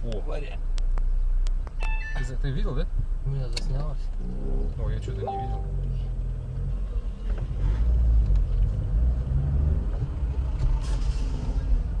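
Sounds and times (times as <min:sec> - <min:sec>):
engine and road noise in cab: 0:00.0 - 0:12.0.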